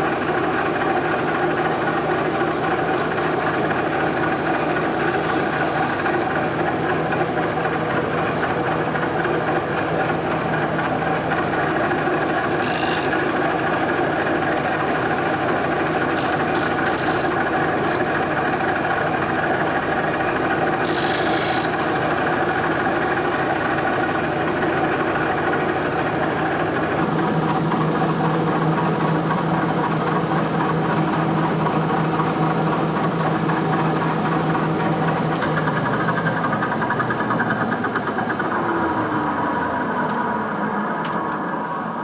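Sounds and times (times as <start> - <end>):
lathe motor hum: 0.0 - 42.0.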